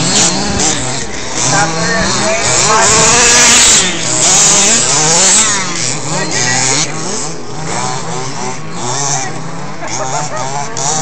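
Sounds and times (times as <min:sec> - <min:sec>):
toy race car motors whining: 0:00.0 - 0:11.0.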